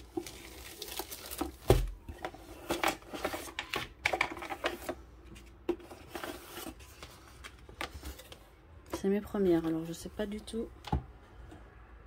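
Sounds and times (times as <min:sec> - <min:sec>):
cardboard and plastic crinkling: 0:00.0 - 0:10.0.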